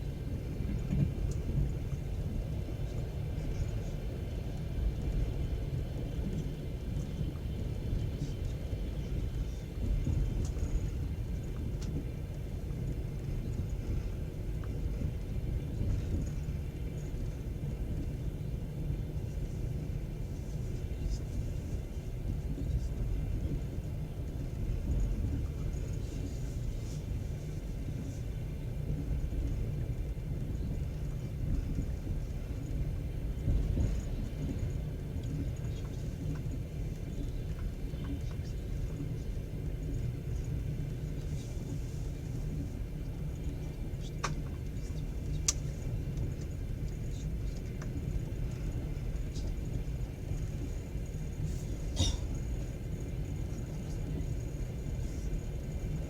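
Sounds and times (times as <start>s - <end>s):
train carriage rumbling: 0.0s - 56.0s.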